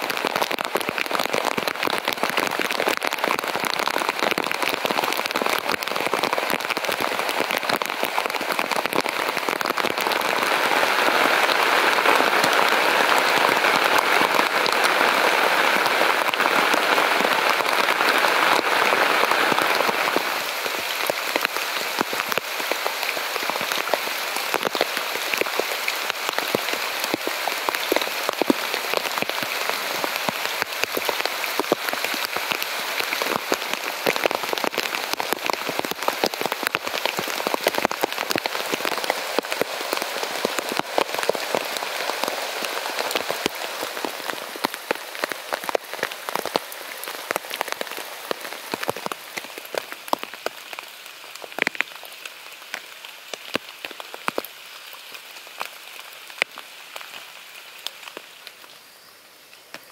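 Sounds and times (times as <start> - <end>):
rain drops striking a surface: 0.0 - 59.9.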